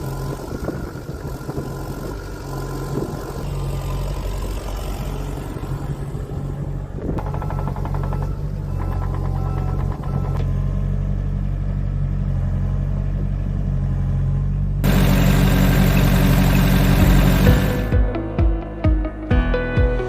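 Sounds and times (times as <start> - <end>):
diesel engine idling: 0.0 - 18.2.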